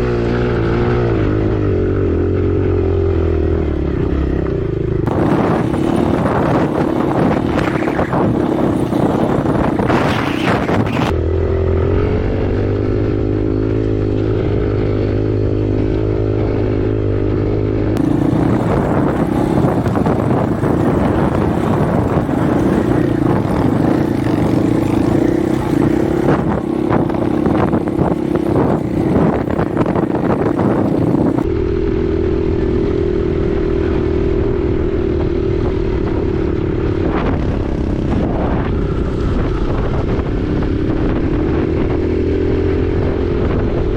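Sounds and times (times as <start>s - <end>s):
dirt bike engine running: 0.0s - 43.9s
wind buffeting microphone: 0.0s - 43.9s.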